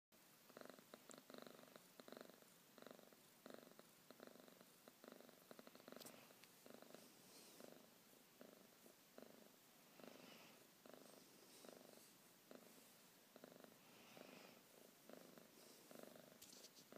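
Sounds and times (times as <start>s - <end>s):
cat purring: 0.3s - 16.9s.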